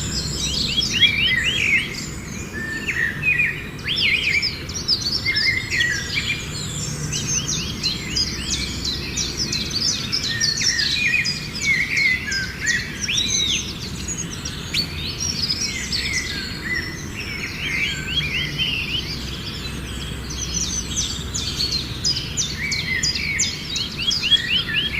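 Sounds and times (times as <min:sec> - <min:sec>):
songbirds chirping and singing: 0:00.0 - 0:24.9.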